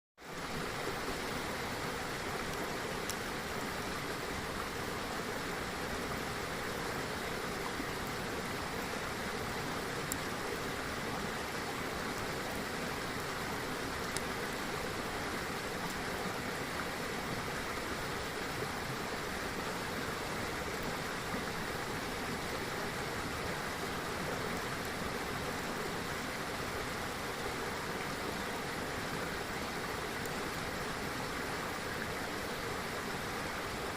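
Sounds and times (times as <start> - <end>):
river water rushing: 0.2 - 33.9.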